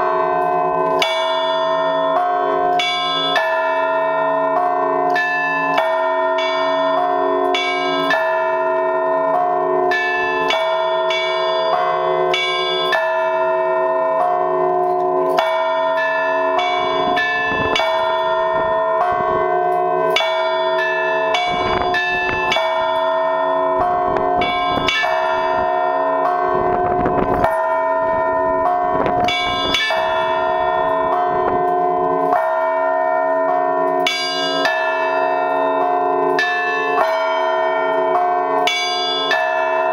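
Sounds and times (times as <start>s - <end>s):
large bells ringing: 0.0s - 39.9s
small church bells chiming: 0.0s - 39.9s.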